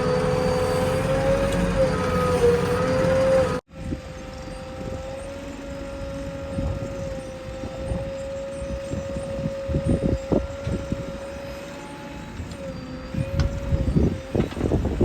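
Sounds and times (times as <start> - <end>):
backhoe engine and hydraulics whining: 0.0 - 15.0.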